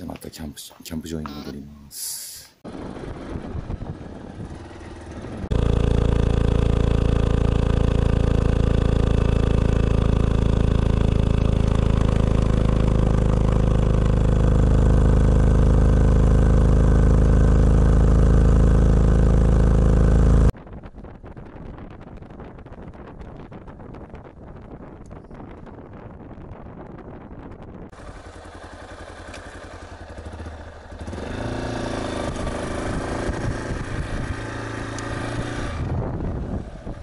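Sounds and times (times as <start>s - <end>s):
motorcycle engine running: 2.6s - 37.0s.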